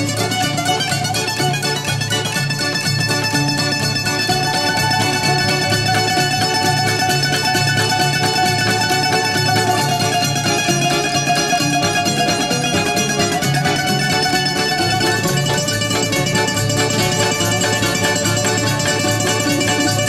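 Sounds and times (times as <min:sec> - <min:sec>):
bouzouki plucked melody: 0:00.0 - 0:20.0
steady bass: 0:00.0 - 0:20.0.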